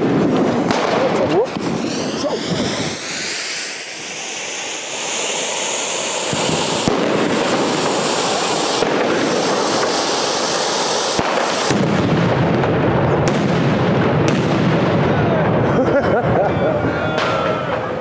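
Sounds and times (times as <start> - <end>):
firework fountain hissing: 0.0 - 18.0.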